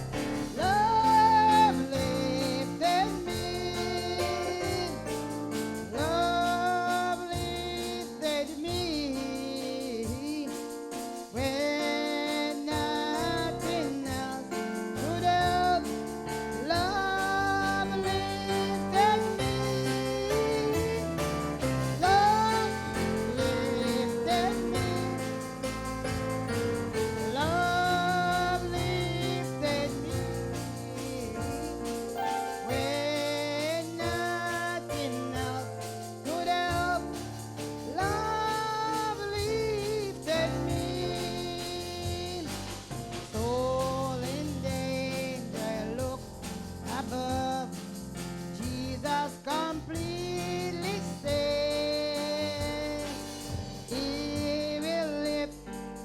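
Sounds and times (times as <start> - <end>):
instrumental backing: 0.0 - 56.0.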